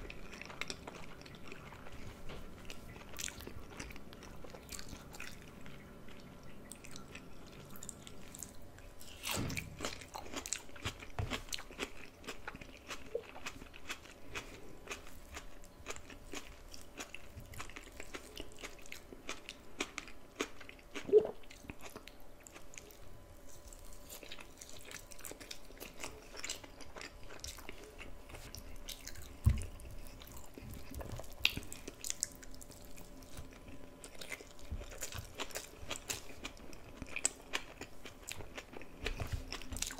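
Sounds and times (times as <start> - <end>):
person chewing and biting food: 0.0 - 39.9.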